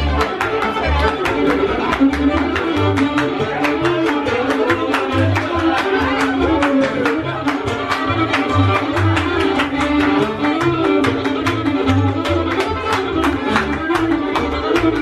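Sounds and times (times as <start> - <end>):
bass line: 0.0 - 15.0
fiddle: 0.0 - 15.0
mandolin: 0.0 - 15.0.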